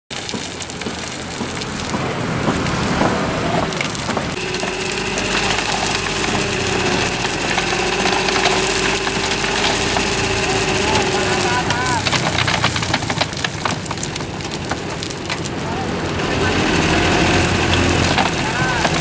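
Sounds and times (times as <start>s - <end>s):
soil and stones tumbling: 0.1s - 19.0s
truck engine running: 0.1s - 19.0s
hydraulic hoist whine: 0.2s - 13.7s, 14.4s - 19.0s.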